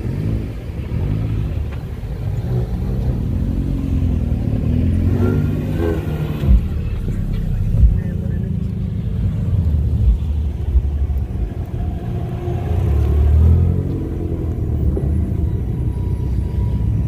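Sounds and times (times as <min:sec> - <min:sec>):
car engine revving up: 0:00.0 - 0:17.0
cars driving past: 0:00.0 - 0:17.0.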